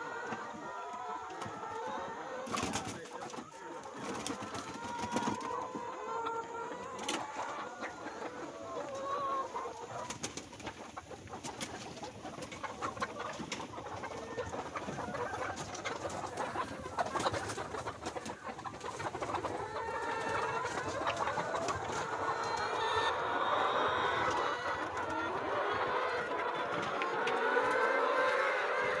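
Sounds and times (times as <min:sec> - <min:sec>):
hens calling: 0:00.0 - 0:29.0.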